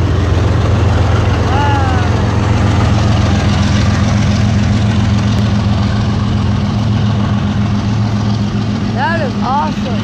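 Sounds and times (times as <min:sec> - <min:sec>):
diesel locomotive engines droning: 0:00.0 - 0:10.0
train rolling on rails: 0:00.0 - 0:10.0.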